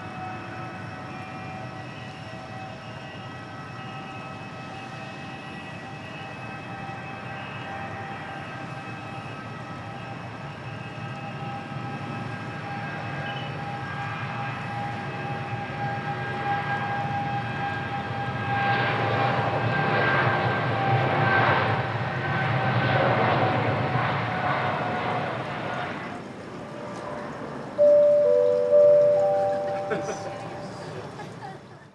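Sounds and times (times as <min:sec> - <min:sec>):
jet engines whining and rumbling: 0:00.0 - 0:31.9.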